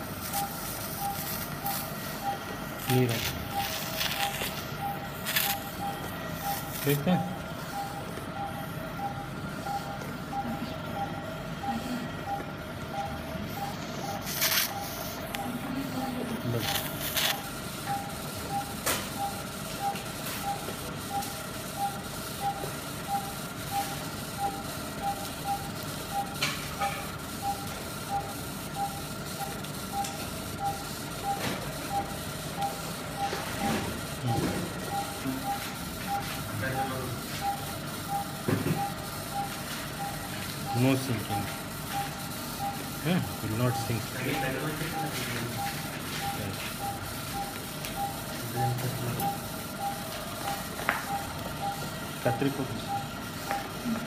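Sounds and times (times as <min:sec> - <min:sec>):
equipment hum: 0:00.0 - 0:54.0
patient monitor beeping: 0:00.0 - 0:54.0.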